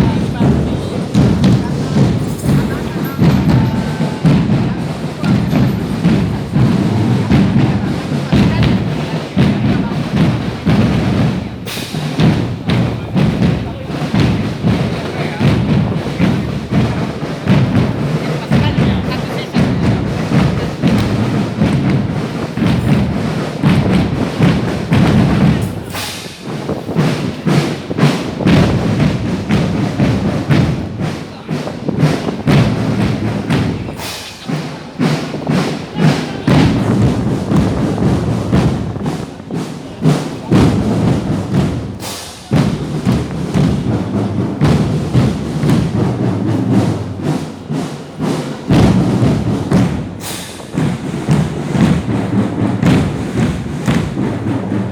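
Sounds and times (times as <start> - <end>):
drums beaten quickly: 0.0 - 54.9.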